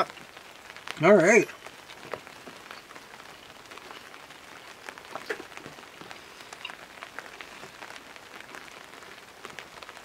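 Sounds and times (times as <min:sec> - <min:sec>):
raindrops tapping on awning: 0:00.0 - 0:10.0
steady rain: 0:00.0 - 0:10.0.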